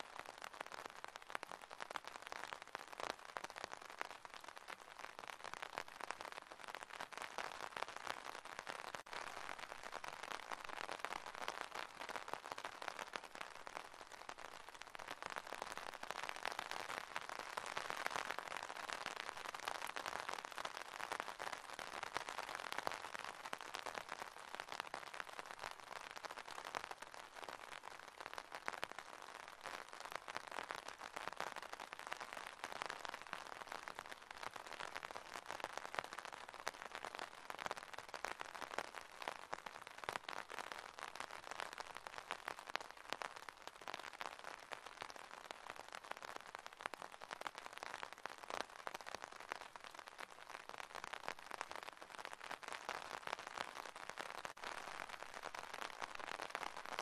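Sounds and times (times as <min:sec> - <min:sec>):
soft steady rain: 0:00.0 - 0:57.0.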